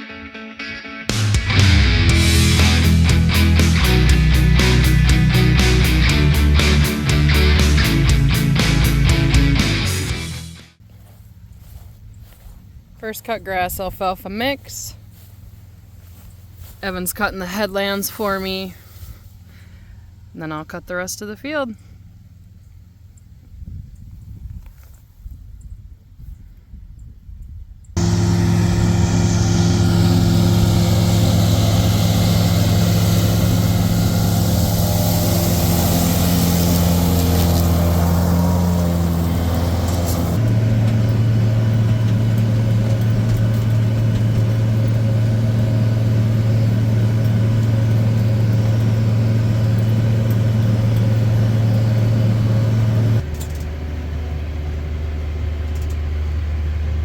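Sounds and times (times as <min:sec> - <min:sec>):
tractor engine under load: 0:01.6 - 0:10.0, 0:10.8 - 0:23.6, 0:28.0 - 0:57.0.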